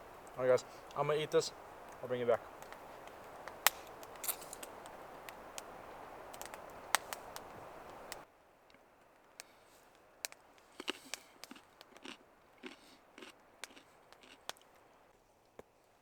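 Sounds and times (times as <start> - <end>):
light rain falling: 0.0 - 15.2.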